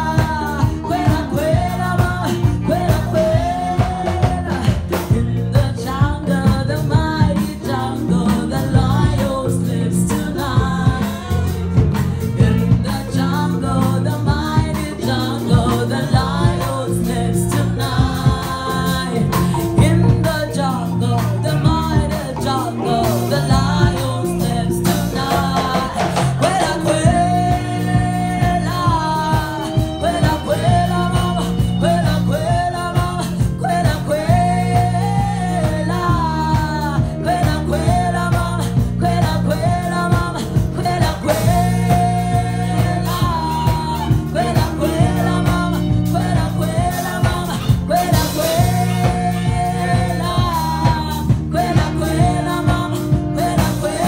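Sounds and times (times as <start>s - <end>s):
bass marimba line: 0.0s - 54.0s
congas beat: 0.0s - 54.0s
voices singing melody: 0.0s - 54.0s
wooden marimbas playing: 0.0s - 54.0s.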